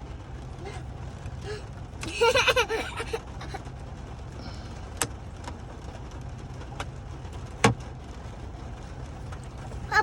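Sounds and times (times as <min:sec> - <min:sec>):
truck idling hum: 0:00.0 - 0:10.0.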